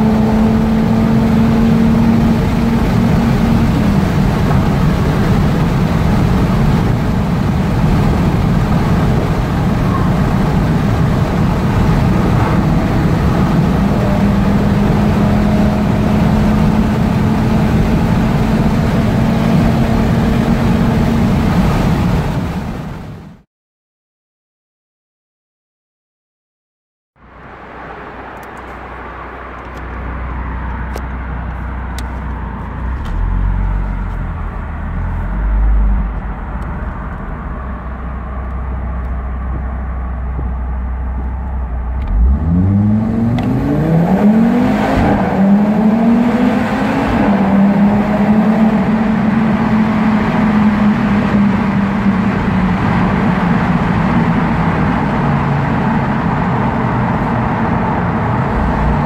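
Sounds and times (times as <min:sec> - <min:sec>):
car engine rumbling and accelerating: 0:00.0 - 0:23.4, 0:27.2 - 0:59.0.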